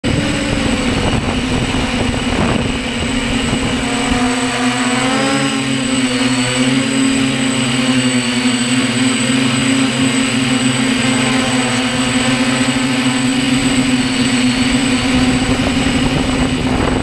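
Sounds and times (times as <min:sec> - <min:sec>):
drone motors humming: 0:00.0 - 0:17.0
wind buffeting microphone: 0:00.0 - 0:17.0.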